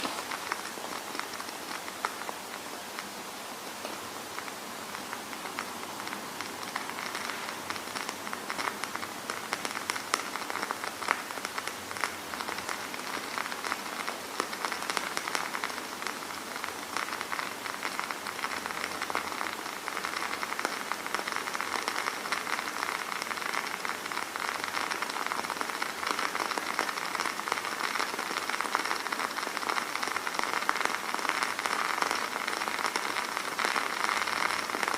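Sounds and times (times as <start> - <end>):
candle crackling: 0.0 - 34.9
soft hiss: 0.0 - 34.9.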